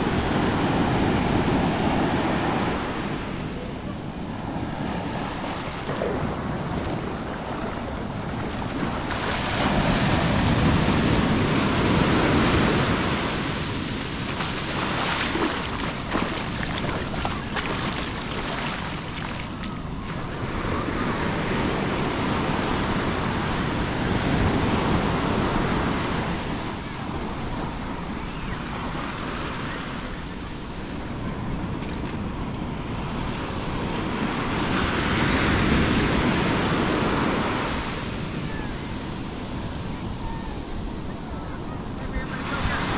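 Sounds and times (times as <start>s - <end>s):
surf breaking on beach: 0.0s - 42.9s.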